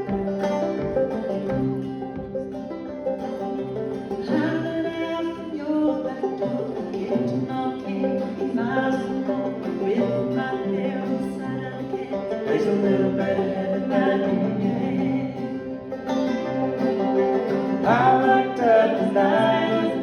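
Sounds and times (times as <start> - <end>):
banjo picking: 0.0 - 20.0
fiddle melody: 0.0 - 20.0.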